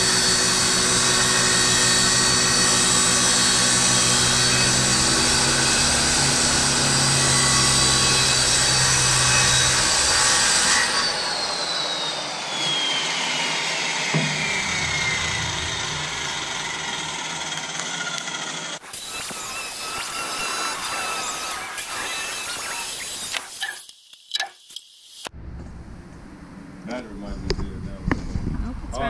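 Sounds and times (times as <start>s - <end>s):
circular saw cutting plywood: 0.0s - 25.3s.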